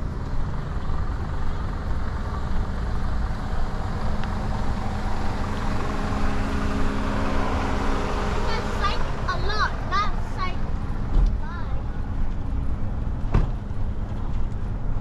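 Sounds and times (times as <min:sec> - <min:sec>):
engine running: 0:00.0 - 0:15.0
road traffic: 0:00.0 - 0:15.0.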